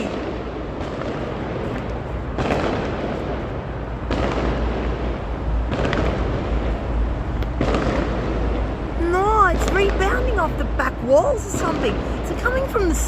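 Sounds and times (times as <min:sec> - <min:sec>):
echoing rumble: 0:00.0 - 0:13.0
fireworks booming: 0:00.0 - 0:13.0.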